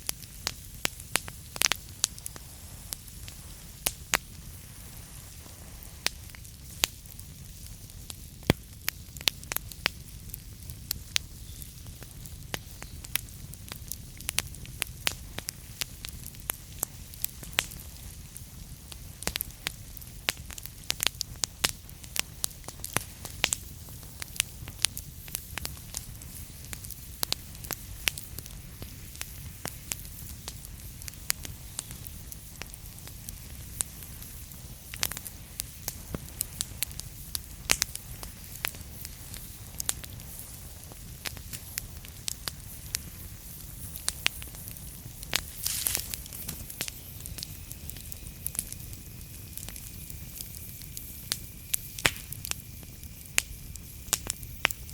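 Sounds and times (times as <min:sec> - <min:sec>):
fire crackling and popping: 0:00.0 - 0:54.9
low rumble and hiss of fire: 0:00.0 - 0:54.9.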